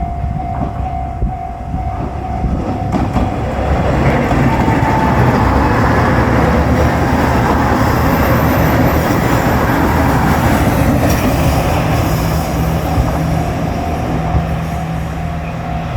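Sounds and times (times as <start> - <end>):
diesel train passing: 0.0 - 15.9.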